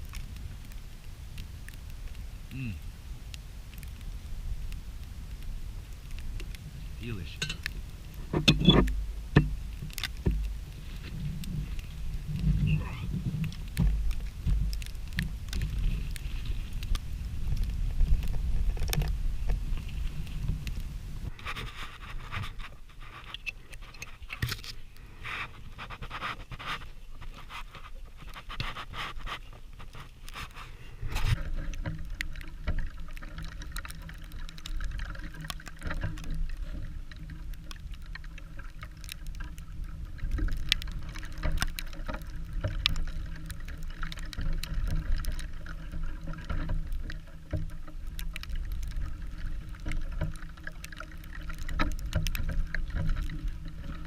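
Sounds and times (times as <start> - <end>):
low wind rumble on microphone: 0.0 - 54.0.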